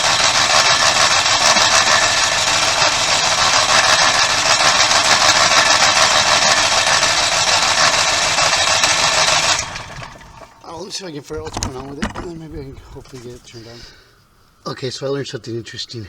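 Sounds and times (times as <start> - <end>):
generator engine trying to start: 0.0 - 14.1.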